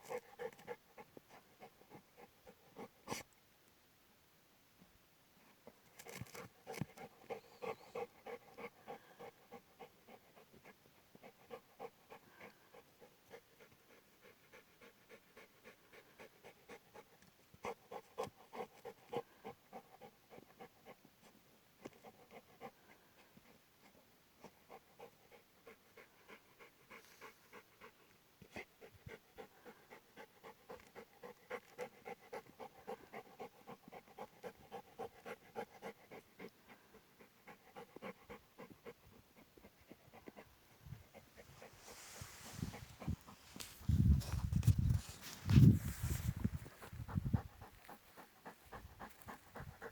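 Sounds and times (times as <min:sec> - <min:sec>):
dog panting: 0:00.0 - 0:03.2, 0:06.0 - 0:49.9.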